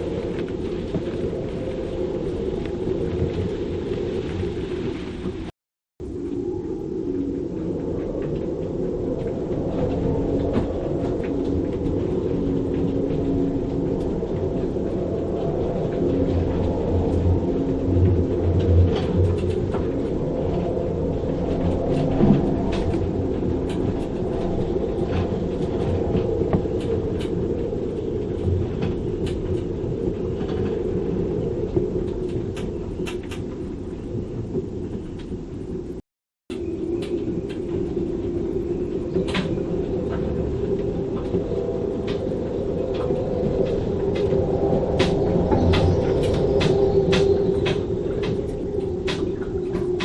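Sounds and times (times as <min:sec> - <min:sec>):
storm wind through rigging: 0:00.0 - 0:50.0.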